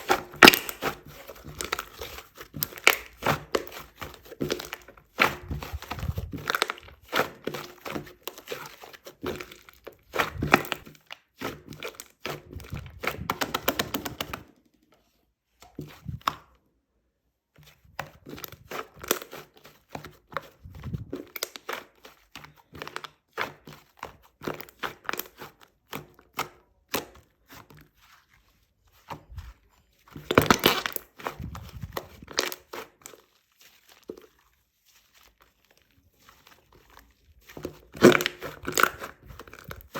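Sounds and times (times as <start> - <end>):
slime squished by hand: 0.0 - 14.8, 17.7 - 39.9.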